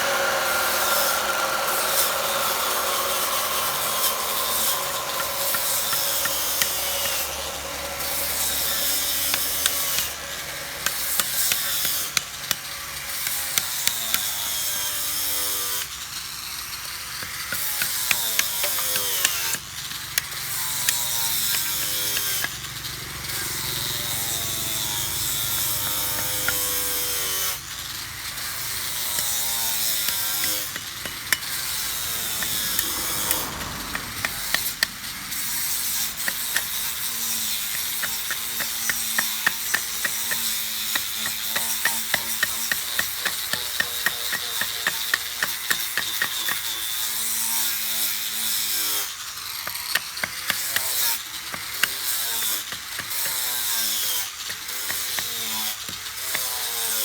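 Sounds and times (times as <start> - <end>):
tool scraping wood: 0.0 - 14.9, 16.9 - 57.0.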